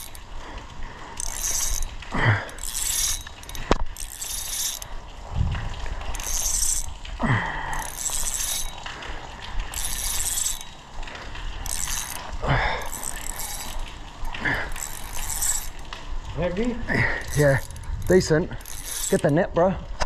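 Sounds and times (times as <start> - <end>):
spinning reel whirring and clicking: 0.0 - 20.0.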